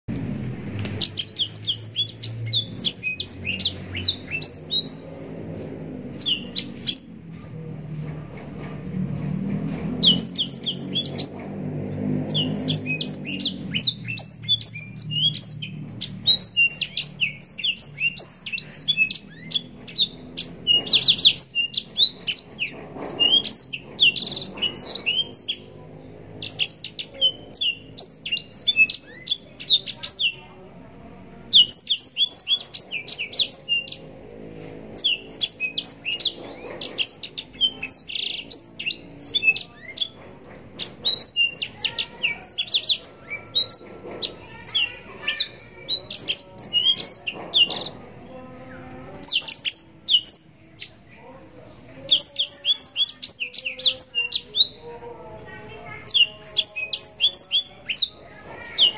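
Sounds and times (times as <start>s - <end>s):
bird singing chirps and trills: 0.9s - 7.4s, 9.8s - 58.9s.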